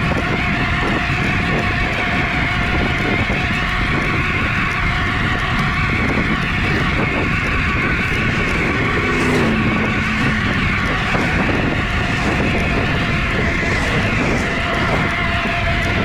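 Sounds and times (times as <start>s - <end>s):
tyres rolling on pavement: 0.0s - 16.0s
wind buffeting microphone: 0.0s - 16.0s.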